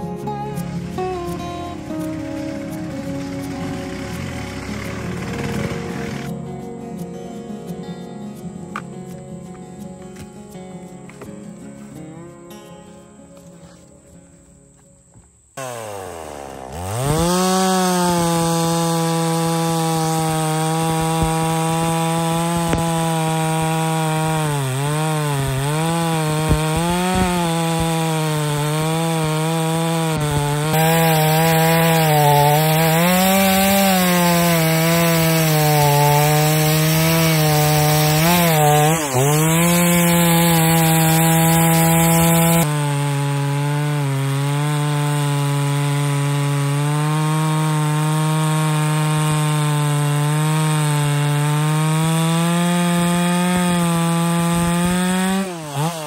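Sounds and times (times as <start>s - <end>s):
chainsaw cutting log: 0.0s - 6.5s, 14.7s - 56.0s.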